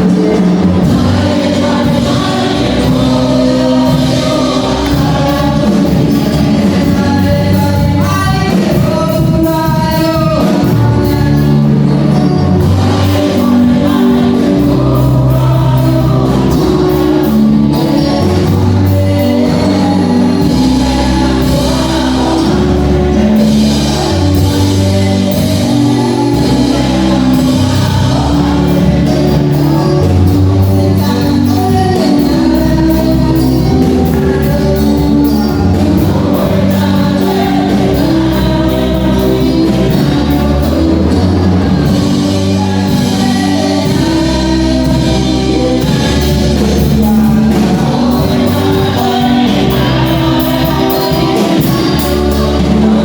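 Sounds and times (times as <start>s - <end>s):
gospel singing: 0.0s - 53.0s
percussion: 0.0s - 53.0s
steady bass line: 0.0s - 53.0s.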